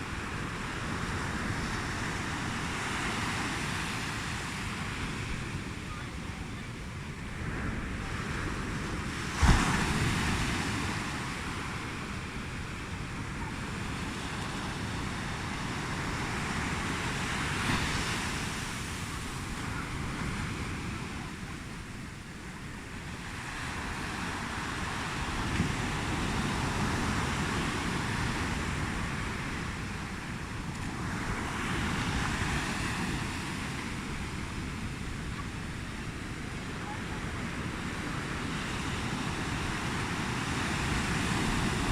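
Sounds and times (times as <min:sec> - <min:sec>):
ocean surf breaking on shore: 0:00.0 - 0:41.9
wind rumbling on microphone: 0:00.0 - 0:41.9.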